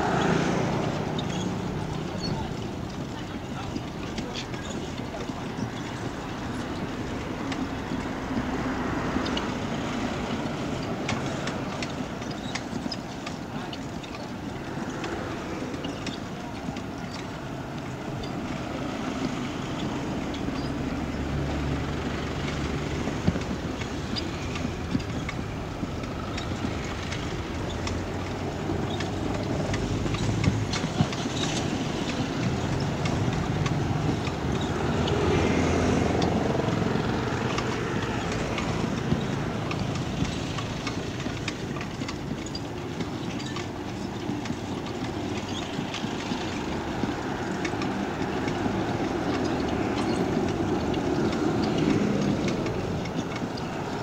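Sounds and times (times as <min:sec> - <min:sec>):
small clicks and rattles: 0:00.0 - 0:54.0
vehicle engines rumbling: 0:00.0 - 0:54.0.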